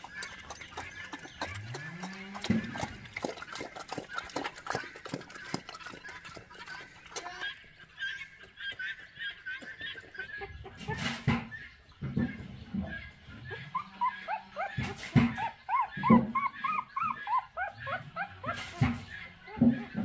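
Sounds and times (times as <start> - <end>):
pigs chewing and snuffling: 0.0 - 20.0.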